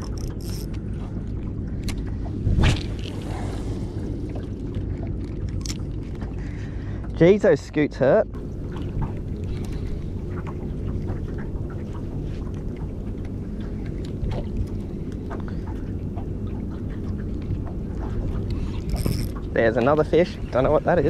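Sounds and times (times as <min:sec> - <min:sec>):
wind and water rumbling: 0:00.0 - 0:21.0.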